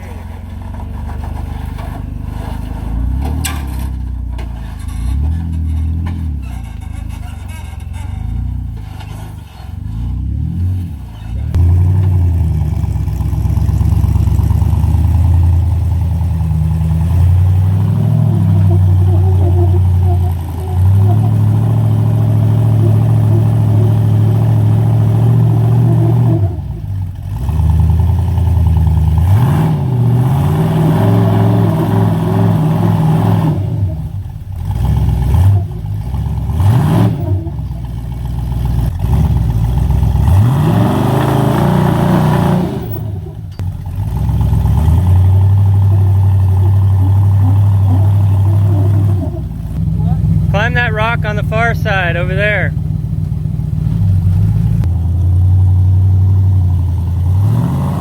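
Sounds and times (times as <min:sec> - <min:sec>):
car engine revving: 0:04.6 - 0:58.0.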